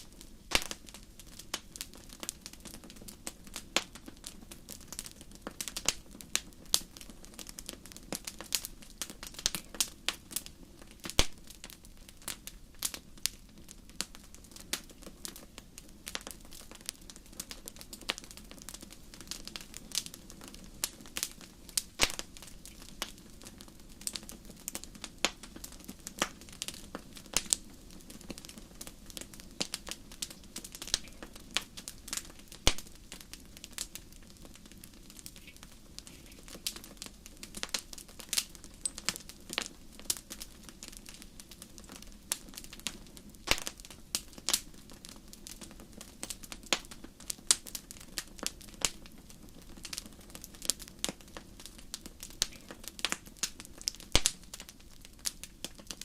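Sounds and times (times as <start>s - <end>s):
fire crackling in a fireplace: 0.0s - 56.0s.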